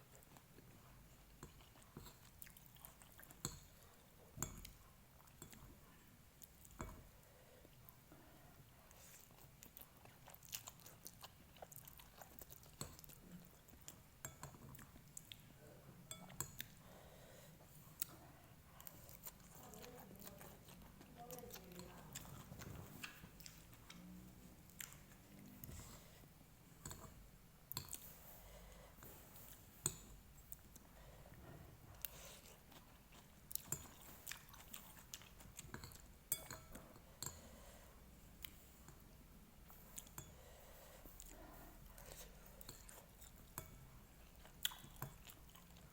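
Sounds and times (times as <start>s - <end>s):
person chewing noodles: 0.0s - 4.0s, 8.7s - 15.5s, 17.9s - 45.9s.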